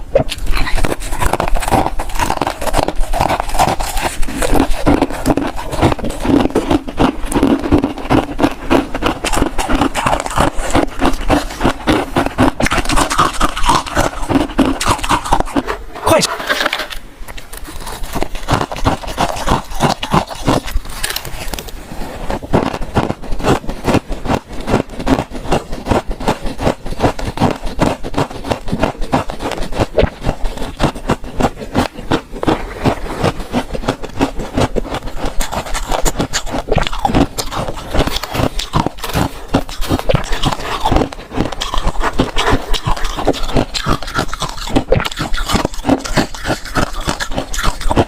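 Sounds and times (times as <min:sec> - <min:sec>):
crunching frost: 0:00.2 - 0:48.0.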